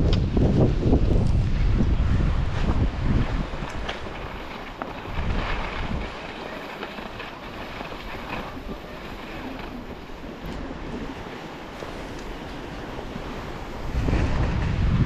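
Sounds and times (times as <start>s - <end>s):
wind buffeting microphone: 0.0s - 15.0s
skis sliding on snow: 0.2s - 15.0s.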